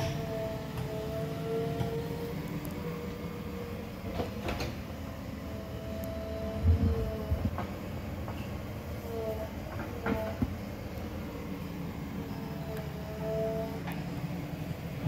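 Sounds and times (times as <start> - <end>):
diesel engine under load: 0.0 - 15.0
steady whine: 0.0 - 15.0.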